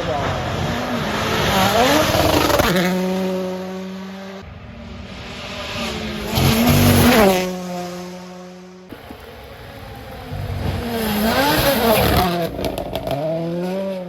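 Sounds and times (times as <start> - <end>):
rally cars passing at full throttle: 0.0 - 14.0.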